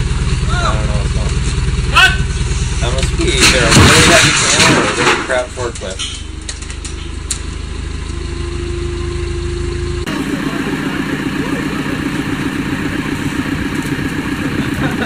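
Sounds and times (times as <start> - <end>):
backhoe engine running: 0.0 - 15.0
forklift engine running: 0.0 - 15.0.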